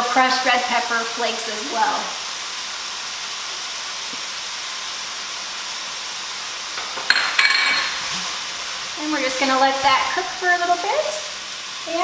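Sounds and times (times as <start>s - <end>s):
meat and onions sizzling: 0.0s - 12.0s.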